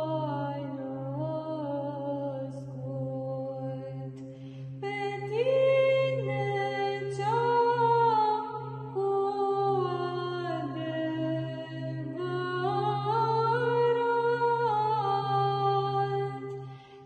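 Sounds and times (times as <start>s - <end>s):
woman singing chant: 0.0s - 4.2s, 4.8s - 16.6s
low vocal drone: 0.0s - 16.8s.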